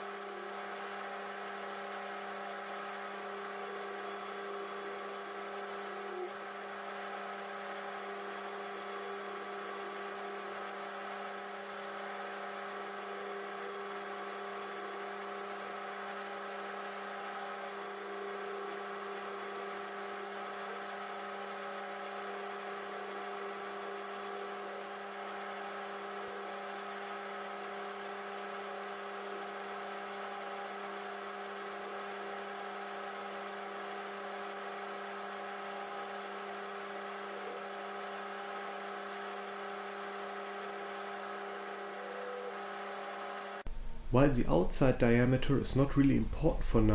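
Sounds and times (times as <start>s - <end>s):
metal lathe cutting steel: 0.0s - 43.6s.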